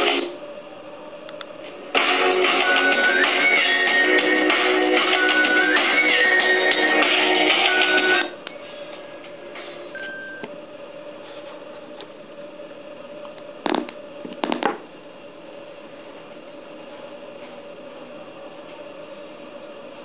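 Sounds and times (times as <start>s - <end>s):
faint hum and hiss: 0.0s - 20.0s.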